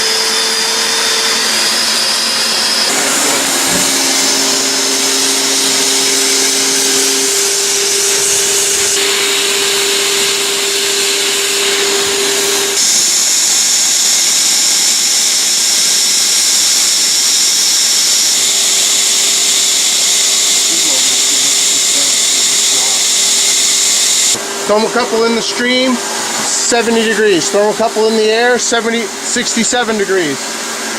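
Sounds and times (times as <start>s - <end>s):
hot-air blower rushing with motor whine: 0.0s - 30.9s.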